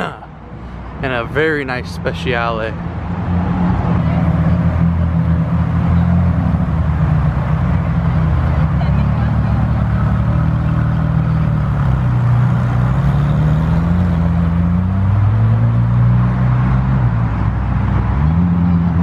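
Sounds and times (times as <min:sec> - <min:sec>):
sports car engine at low revs: 0:02.7 - 0:19.0.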